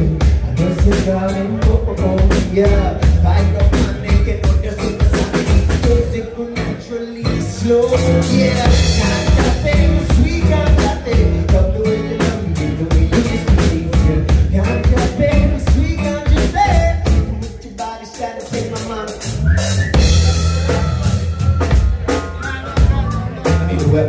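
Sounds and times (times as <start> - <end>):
drum beat: 0.0 - 6.1, 8.0 - 17.5, 18.1 - 24.0
acoustic guitar: 0.0 - 24.0
electric bass: 0.0 - 24.0
man singing: 0.0 - 24.0.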